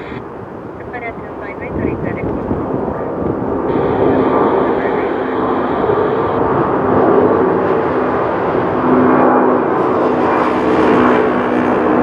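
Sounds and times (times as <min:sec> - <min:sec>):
jet airliner climbing overhead: 0:00.0 - 0:12.0.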